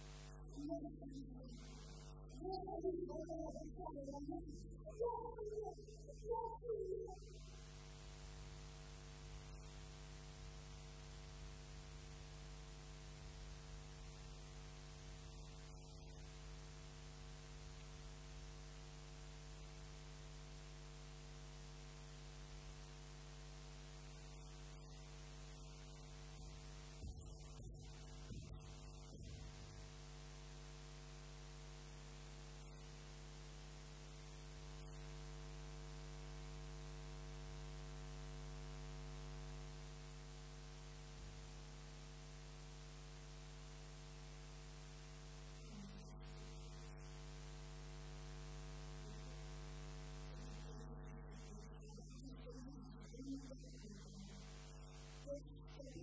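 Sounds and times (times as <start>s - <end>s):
faint hiss: 0.0s - 52.0s.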